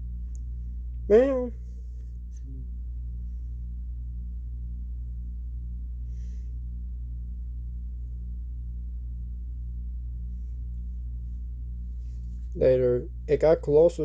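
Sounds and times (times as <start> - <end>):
pulsing low hum: 0.0 - 14.0.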